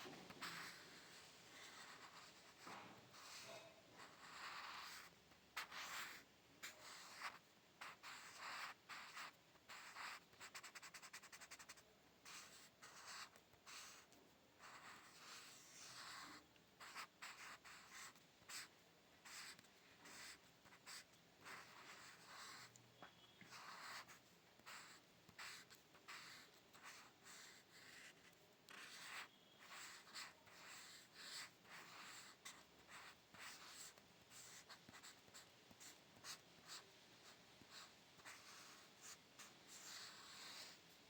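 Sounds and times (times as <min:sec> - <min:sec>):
pencil scratching on paper: 0:00.0 - 0:40.8.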